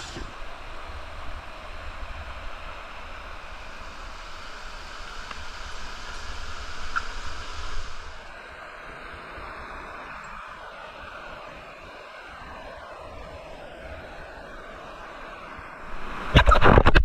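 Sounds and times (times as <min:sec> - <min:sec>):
rushing falling water: 0:00.0 - 0:16.5.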